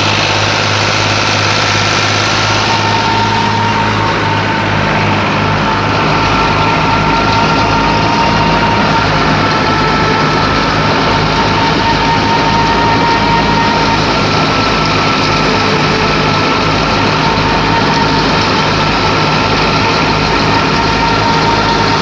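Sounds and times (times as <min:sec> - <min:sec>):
tractor diesel engine drone: 0:00.0 - 0:22.0.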